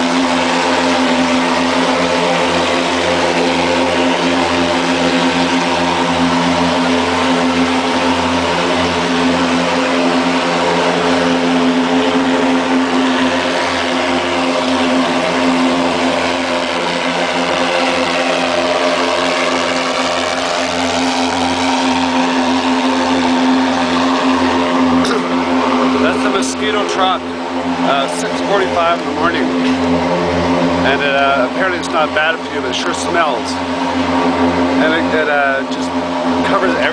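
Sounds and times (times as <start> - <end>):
fogging machine droning: 0.0 - 36.9.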